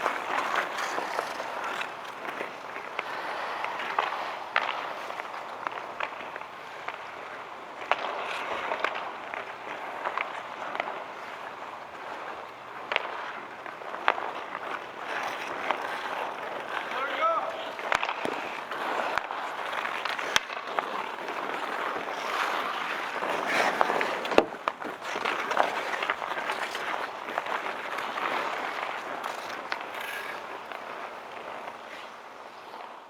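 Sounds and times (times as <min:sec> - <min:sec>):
hockey sticks and puck clacking: 0:00.0 - 0:33.0
skates scraping on ice: 0:00.0 - 0:33.0.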